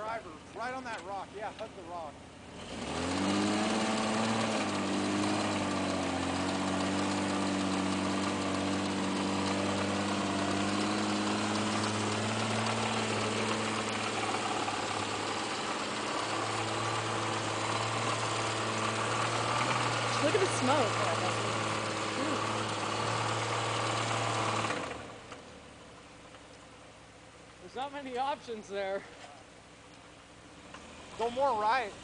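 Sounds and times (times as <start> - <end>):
truck engine at low revs: 0.0 - 32.0.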